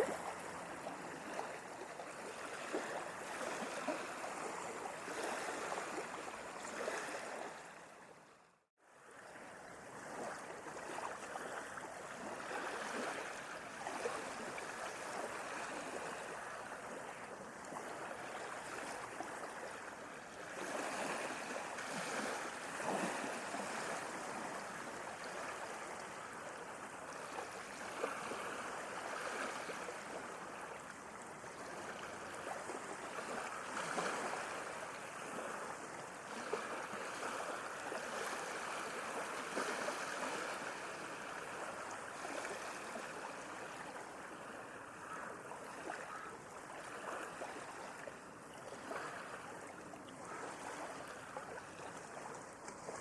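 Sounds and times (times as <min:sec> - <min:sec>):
sea waves washing and lapping: 0:00.0 - 0:53.0.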